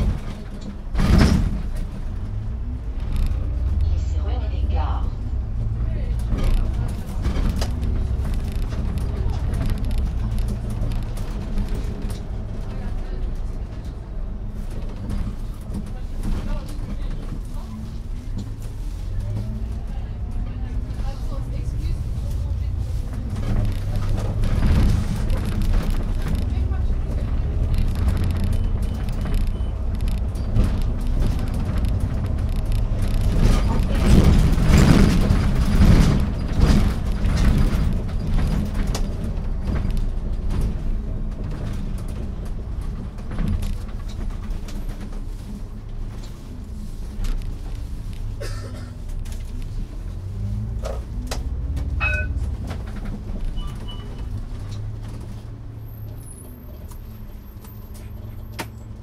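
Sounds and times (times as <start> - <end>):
light clicks and rattles: 0.0 - 3.9, 6.1 - 14.0, 14.6 - 55.5
bus engine: 0.0 - 59.0
tyres running on road: 0.0 - 59.0.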